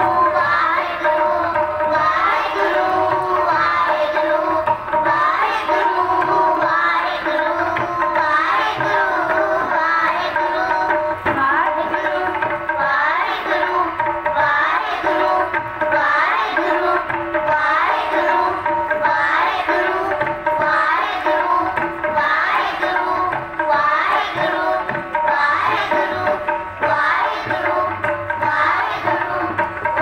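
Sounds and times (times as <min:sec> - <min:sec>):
children singing devotional song: 0:00.0 - 0:30.0
tabla: 0:00.0 - 0:30.0.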